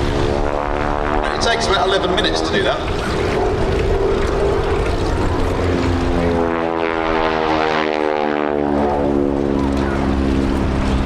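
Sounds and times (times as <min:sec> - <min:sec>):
propeller aircraft droning past: 0:00.0 - 0:11.0.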